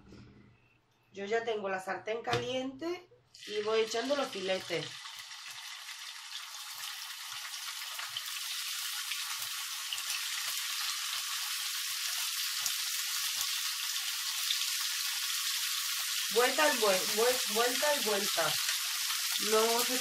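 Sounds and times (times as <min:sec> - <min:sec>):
chicken sizzling in oil: 0:03.4 - 0:20.0.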